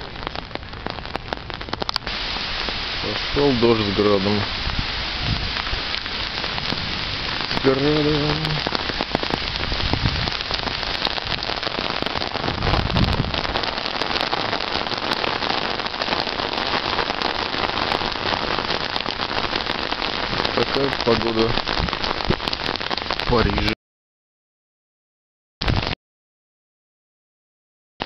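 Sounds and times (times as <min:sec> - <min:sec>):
heavy rain and hail on gravel: 0:00.0 - 0:23.8, 0:25.6 - 0:26.0.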